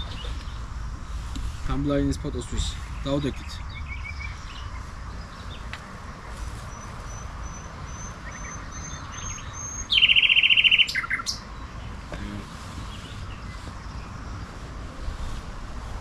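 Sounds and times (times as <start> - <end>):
songbirds singing: 0.0 - 15.7.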